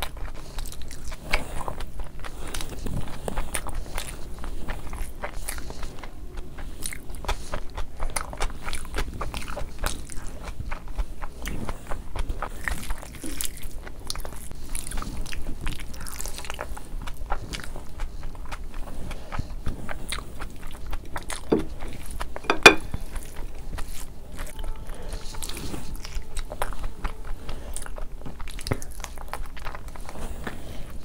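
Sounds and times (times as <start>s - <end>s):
chewing and wet mouth sounds: 0.0s - 31.0s.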